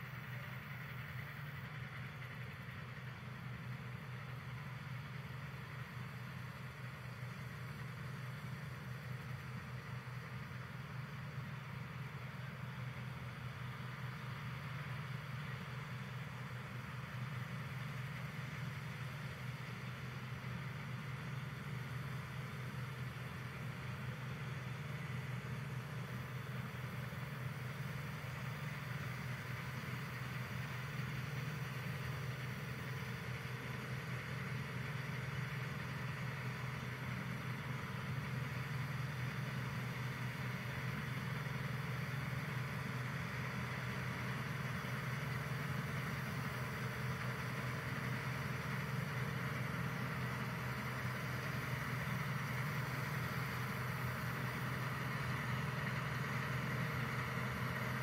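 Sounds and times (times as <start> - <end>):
combine harvester engine running: 0.0 - 58.0.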